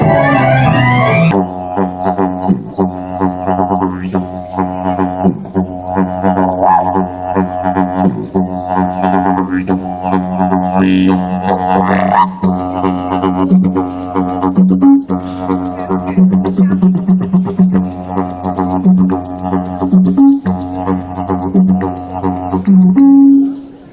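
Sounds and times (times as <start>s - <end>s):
droning wind instrument: 0.0s - 23.7s.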